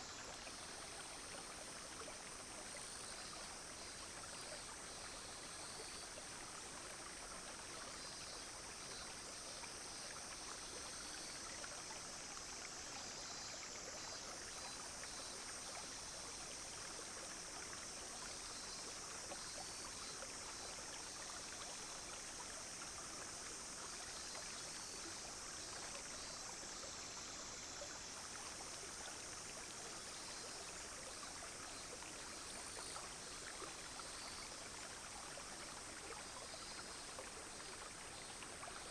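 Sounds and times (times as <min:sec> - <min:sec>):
brook flowing: 0:00.0 - 0:38.9
cicadas and insects droning: 0:00.0 - 0:38.9.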